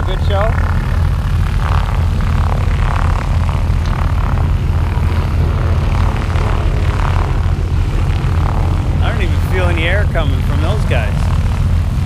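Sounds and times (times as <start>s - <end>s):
propeller airplane engines running: 0.0s - 12.0s.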